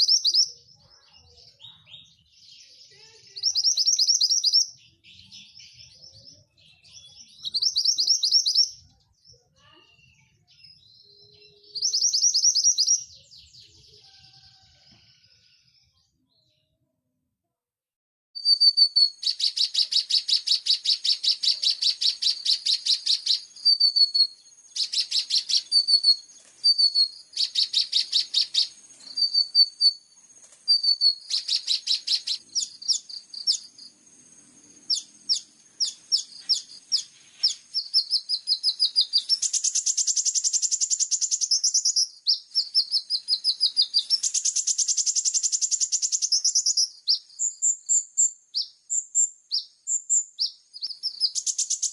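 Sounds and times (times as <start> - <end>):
lark song with fast trills: 0.0 - 10.4, 11.0 - 14.7, 18.4 - 51.9.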